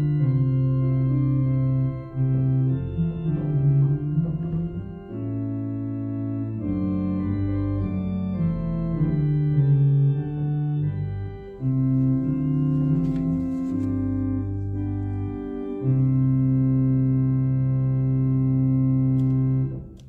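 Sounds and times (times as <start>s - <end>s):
church organ playing a hymn: 0.0s - 20.0s.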